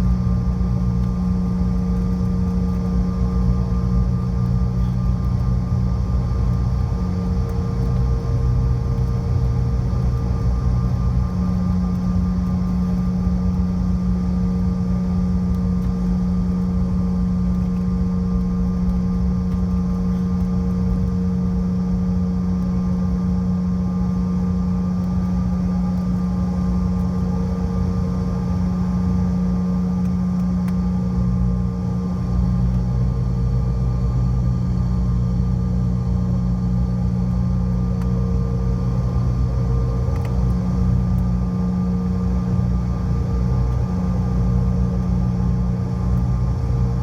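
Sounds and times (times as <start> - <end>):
jet engine drone in cabin: 0.0 - 47.0.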